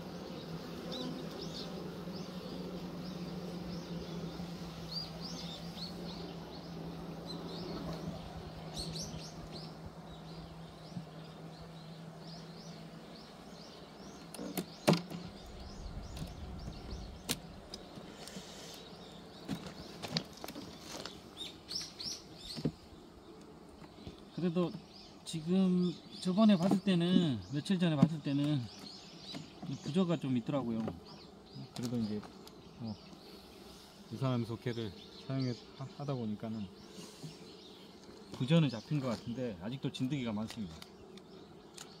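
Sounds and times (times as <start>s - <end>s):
honeybees humming: 0.0s - 42.0s
small birds chirping: 0.0s - 42.0s
wooden frames and hive tool knocking: 0.0s - 42.0s.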